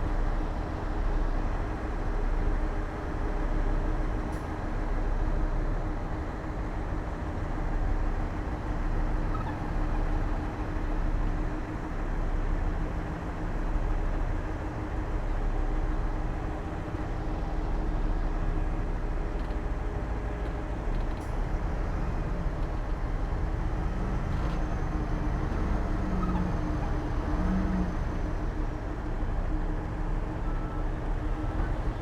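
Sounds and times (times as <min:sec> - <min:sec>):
diesel machinery engine rumble: 0:00.0 - 0:32.0.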